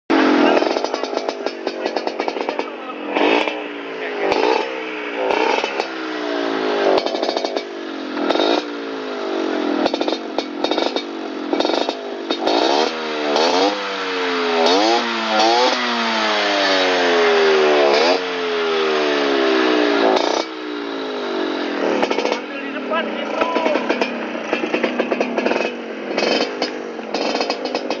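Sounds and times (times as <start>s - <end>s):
crackly rasping exhaust: 0.1s - 28.0s
motorcycle engine revving: 0.1s - 28.0s.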